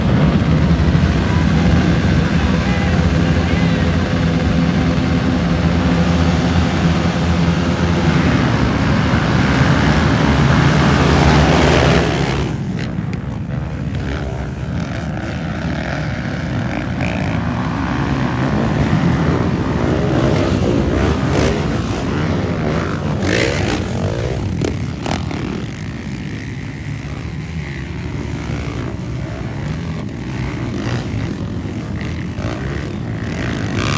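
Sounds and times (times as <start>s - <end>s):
dirt bike engines revving: 0.0s - 33.9s.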